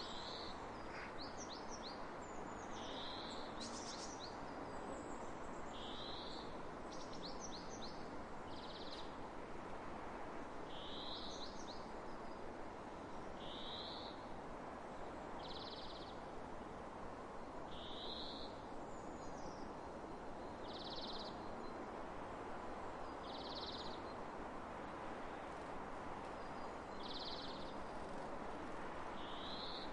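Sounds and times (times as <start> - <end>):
steady wind: 0.0 - 29.9.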